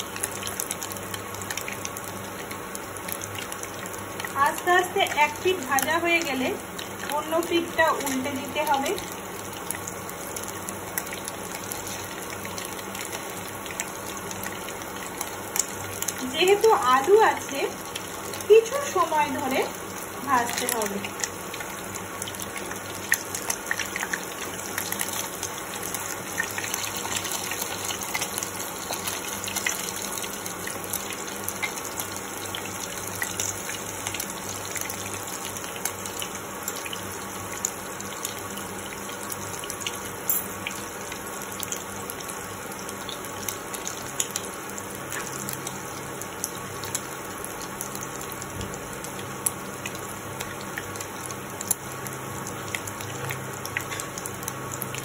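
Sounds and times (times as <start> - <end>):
food sizzling in oil: 0.0 - 55.0
oil crackling and popping: 0.0 - 55.0.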